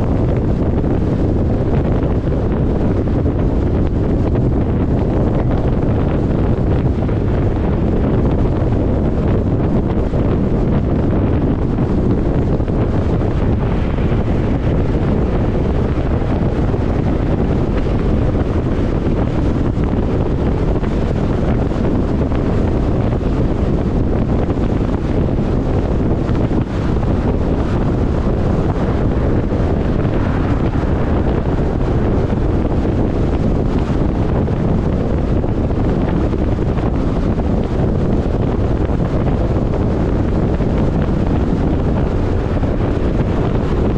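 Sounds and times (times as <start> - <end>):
car wind and tyre noise: 0.0 - 43.9
wind buffeting the microphone: 0.0 - 43.9.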